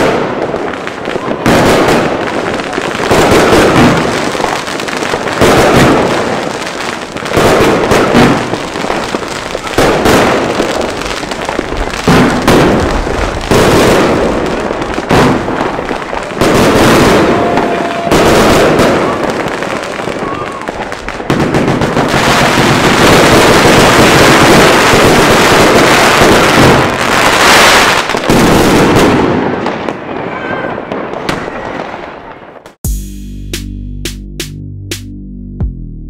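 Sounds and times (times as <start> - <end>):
fireworks shots and bursts: 0.0 - 32.9.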